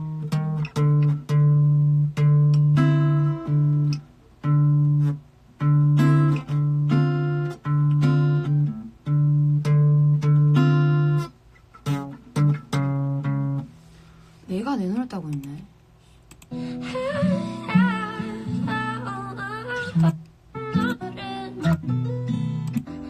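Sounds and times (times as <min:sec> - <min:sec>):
guitar chords: 0:00.0 - 0:14.2, 0:16.4 - 0:23.0.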